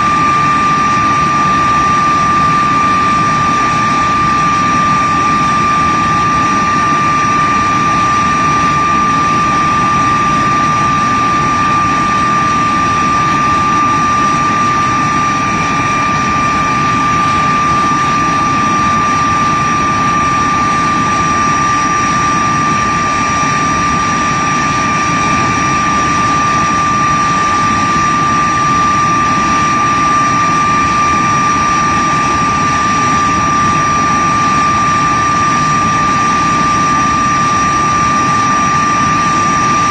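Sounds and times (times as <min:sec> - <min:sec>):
jet engine whining: 0:00.0 - 0:39.9.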